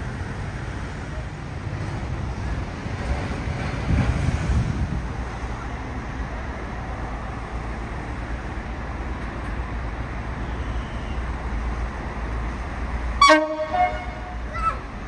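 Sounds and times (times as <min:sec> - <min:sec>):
diesel rail vehicle rumbling: 0:00.0 - 0:15.0
wheel and rail noise: 0:00.0 - 0:15.0.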